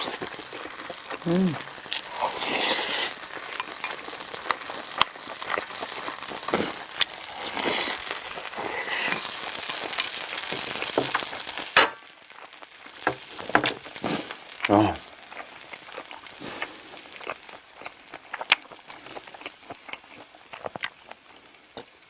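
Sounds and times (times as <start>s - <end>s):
rice sizzling in a hot pan: 0.0s - 22.0s.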